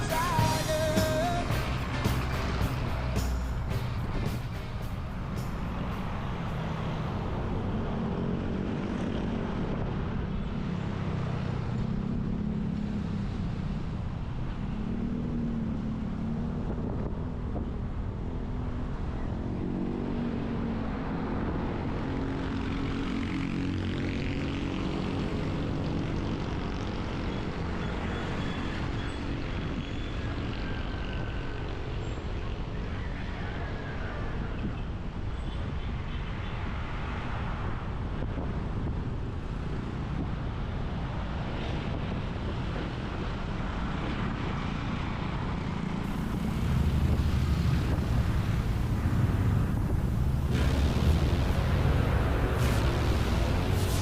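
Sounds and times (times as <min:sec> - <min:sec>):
road noise rumble: 0:00.0 - 0:54.0
vehicle engines: 0:00.0 - 0:54.0.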